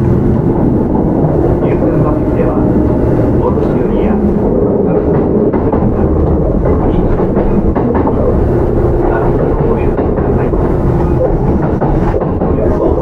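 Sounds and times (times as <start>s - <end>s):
low steady hum: 0.0s - 13.0s
track clicks: 0.0s - 13.0s
train wheels rumbling on rails: 0.0s - 13.0s.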